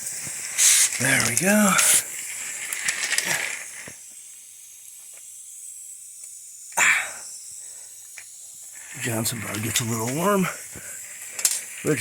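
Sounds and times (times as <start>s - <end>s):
loud burst of steam: 0.0s - 12.0s
model steam locomotive hissing: 0.0s - 12.0s.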